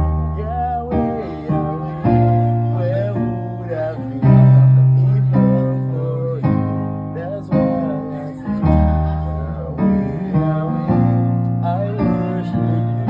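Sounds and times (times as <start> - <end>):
held bass notes: 0.0 - 13.0.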